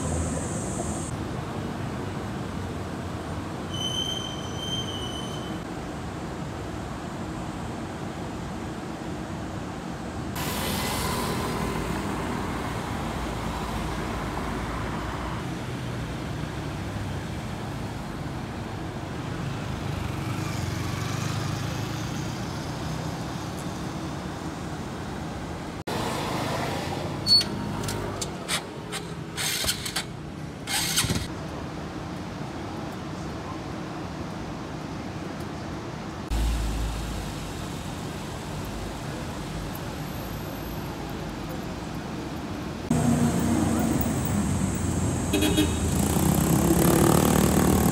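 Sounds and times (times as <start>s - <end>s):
street traffic passing: 0.0s - 47.9s.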